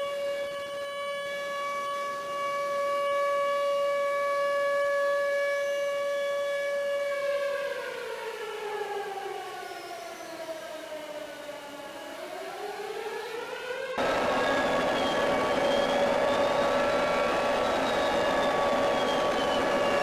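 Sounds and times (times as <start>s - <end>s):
warning siren wailing: 0.0s - 9.6s, 10.3s - 20.0s.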